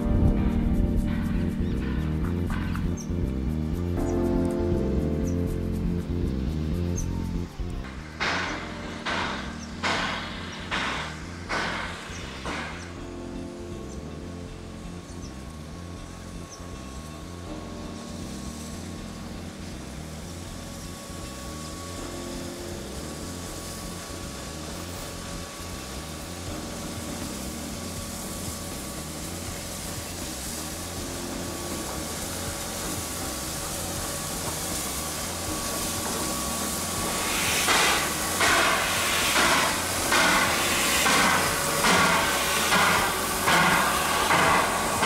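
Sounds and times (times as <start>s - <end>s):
slow exhaust chuffs: 0.0s - 45.0s
steam hissing: 0.0s - 45.0s
steam locomotive rumble: 0.0s - 45.0s.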